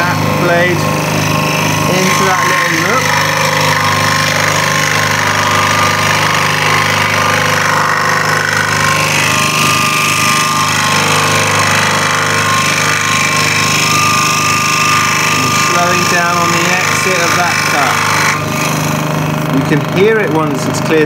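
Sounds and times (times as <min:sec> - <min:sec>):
scroll saw cutting wood: 0:00.0 - 0:21.0.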